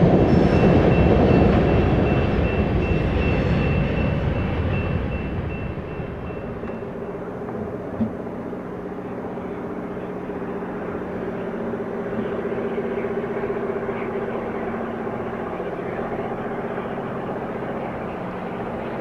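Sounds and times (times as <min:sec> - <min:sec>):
diesel locomotive engines droning: 0:00.0 - 0:19.0.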